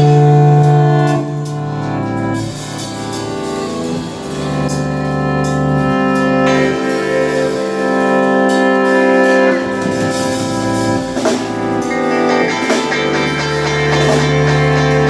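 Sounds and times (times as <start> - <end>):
music with long held chords: 0.0 - 15.0.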